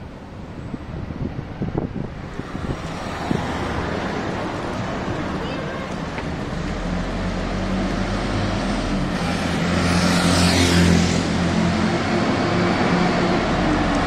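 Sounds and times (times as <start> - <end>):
city street traffic: 0.0 - 14.0
heavy vehicle engine passing: 2.2 - 14.0.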